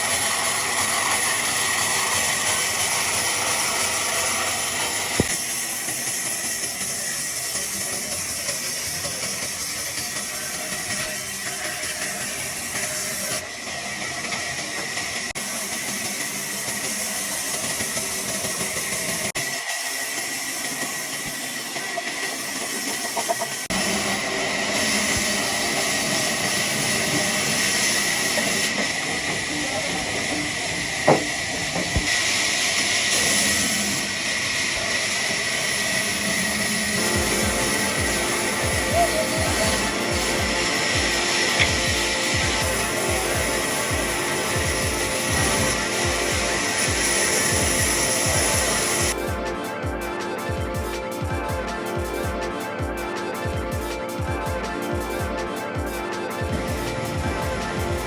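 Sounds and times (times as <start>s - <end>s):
sawmill machinery hissing: 0.0s - 58.0s.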